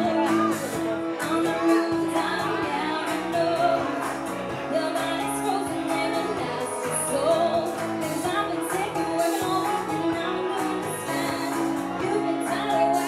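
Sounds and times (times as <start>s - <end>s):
pop dance music: 0.0s - 13.0s
woman singing into microphone: 0.0s - 13.0s.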